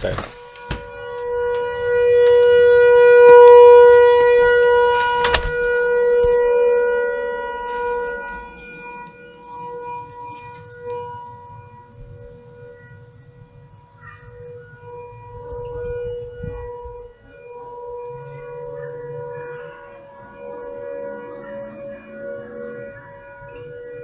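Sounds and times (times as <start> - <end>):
rotating tornado siren: 0.0 - 24.0.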